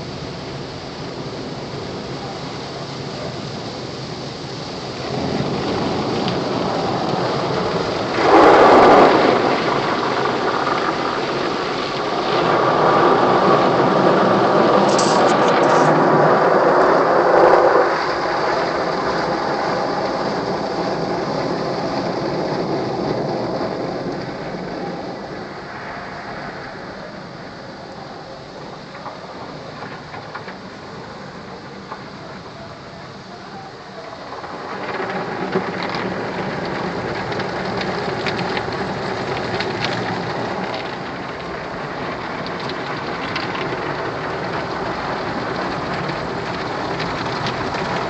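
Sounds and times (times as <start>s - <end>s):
car wash water spraying: 0.0s - 27.8s, 34.3s - 48.0s.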